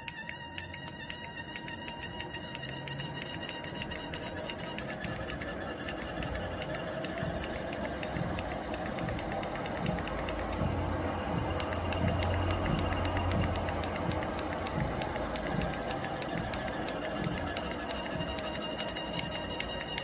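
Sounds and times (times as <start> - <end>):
rapid regular ticking: 0.0 - 20.0
treadmill motor running: 0.0 - 20.0.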